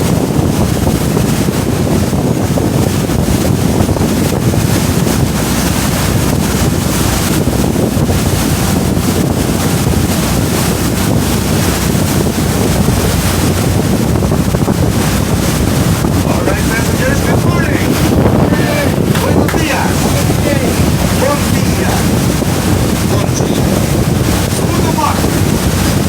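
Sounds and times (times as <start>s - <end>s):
boat engine running: 0.0s - 26.0s
water rushing: 0.0s - 26.0s
wind buffeting microphone: 0.0s - 26.0s.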